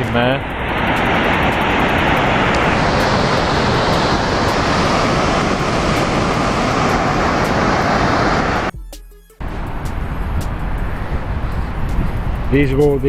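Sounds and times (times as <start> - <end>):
wind rumbling on microphone: 0.0 - 8.7, 9.4 - 13.0.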